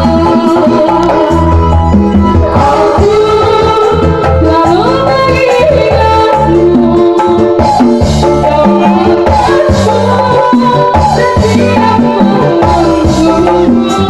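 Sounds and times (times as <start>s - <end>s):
hand drums: 0.0s - 14.0s
live band playing: 0.0s - 14.0s
pulsing bass: 0.0s - 14.0s
woman singing into a microphone: 0.0s - 14.0s.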